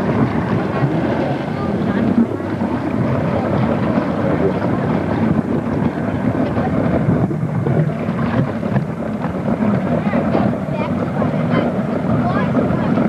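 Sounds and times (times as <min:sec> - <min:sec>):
jet ski engine running: 0:00.0 - 0:13.0
wind rumbling on microphone: 0:00.0 - 0:13.0.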